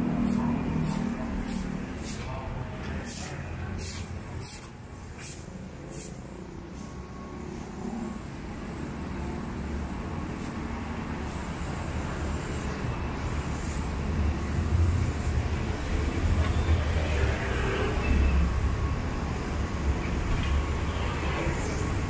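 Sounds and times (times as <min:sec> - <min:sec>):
street traffic passing: 0:00.0 - 0:22.0.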